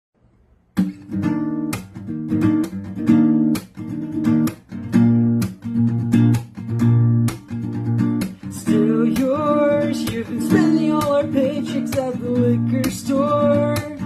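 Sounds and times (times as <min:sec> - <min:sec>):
acoustic guitar strumming: 0:00.7 - 0:14.0.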